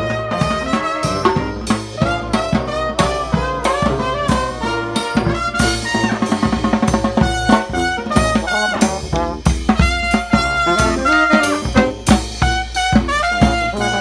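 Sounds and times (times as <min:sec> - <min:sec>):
bass drum and snare drum: 0:00.0 - 0:14.0
brass band playing: 0:00.0 - 0:14.0.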